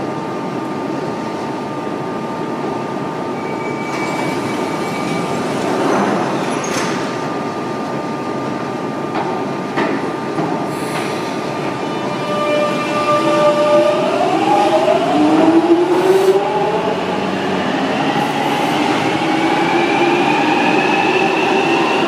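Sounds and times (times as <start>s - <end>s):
train doors closing: 3.4s - 22.0s.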